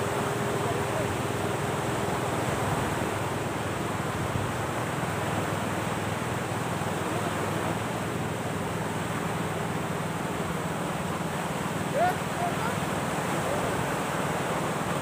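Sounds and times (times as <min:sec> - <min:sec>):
waves at the shore: 0:00.0 - 0:15.0
wind: 0:00.0 - 0:15.0.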